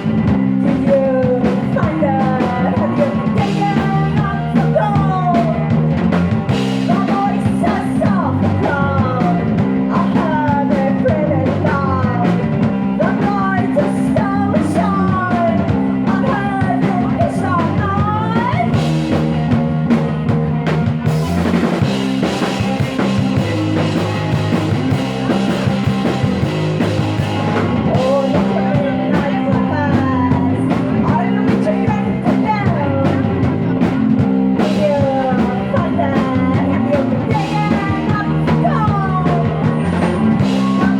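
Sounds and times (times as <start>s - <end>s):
rock band playing: 0.0s - 40.9s.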